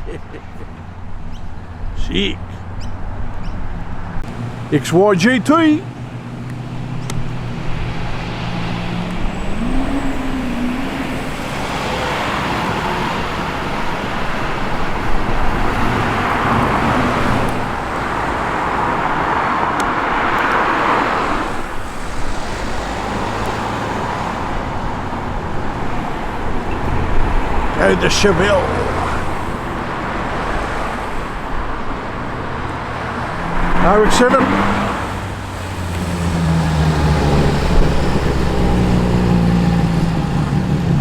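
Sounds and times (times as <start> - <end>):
cars driving past: 0.0 - 41.0
car engine rolling in: 3.7 - 41.0.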